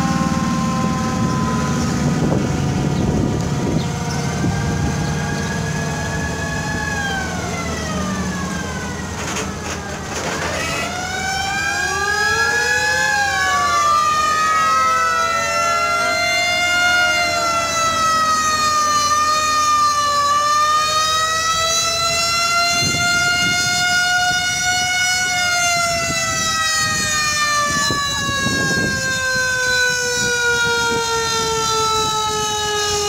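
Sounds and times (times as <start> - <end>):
fire truck sirens wailing: 0.0 - 33.0.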